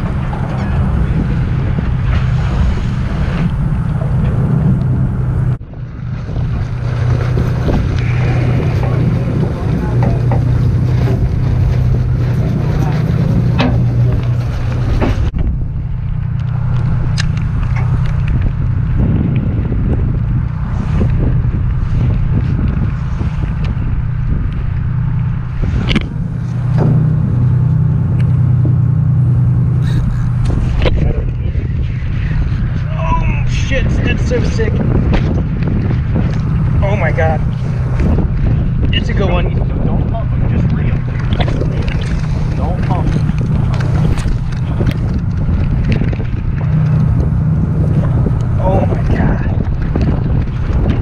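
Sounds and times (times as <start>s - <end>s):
boat engine droning: 0.0s - 51.0s
waves: 0.0s - 51.0s
wind on microphone: 0.0s - 51.0s.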